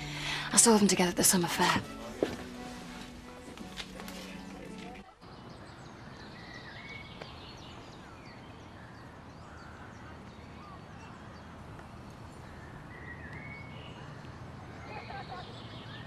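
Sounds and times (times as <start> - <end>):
birds chirping: 0.0 - 16.0
steady outdoor hush: 0.0 - 16.0.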